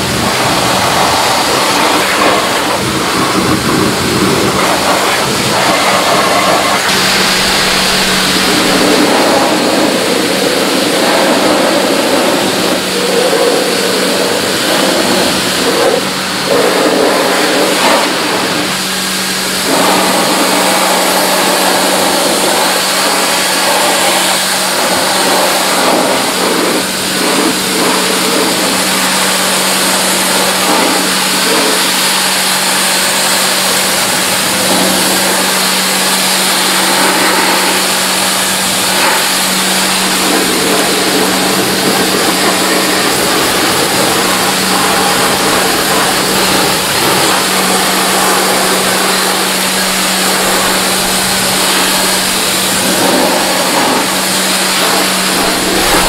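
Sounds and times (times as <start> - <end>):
pressure washer spraying water: 0.0 - 56.0
pump motor humming: 0.0 - 56.0.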